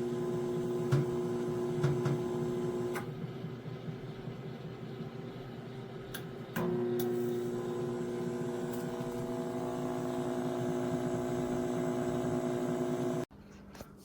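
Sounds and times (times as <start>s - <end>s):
microwave oven electrical hum: 0.0s - 13.3s.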